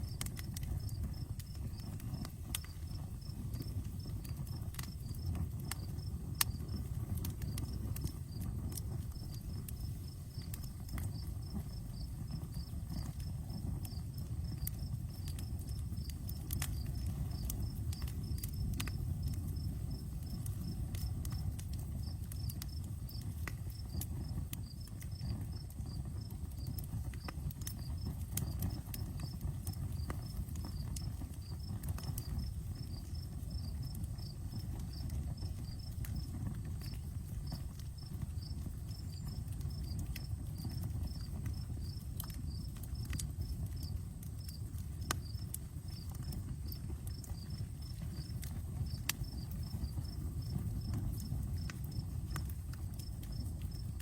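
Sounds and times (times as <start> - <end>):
crickets chirping: 0.0 - 26.8, 27.8 - 54.0
campfire crackling and popping: 0.0 - 54.0.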